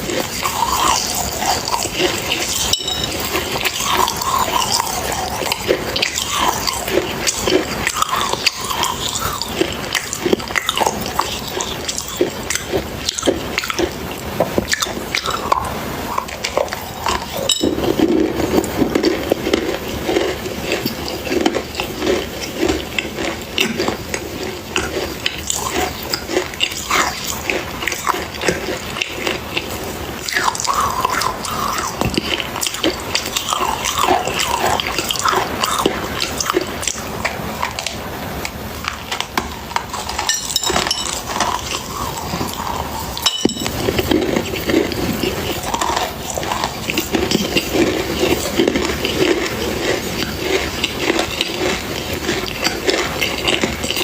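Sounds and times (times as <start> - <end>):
chewing crunchy clay: 0.0 - 54.0.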